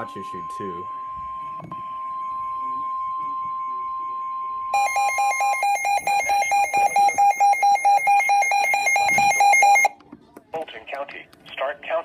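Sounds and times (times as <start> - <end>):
rapid two-pitch electronic beeping: 0.0 - 9.9
steady warning alarm tone: 0.0 - 9.9.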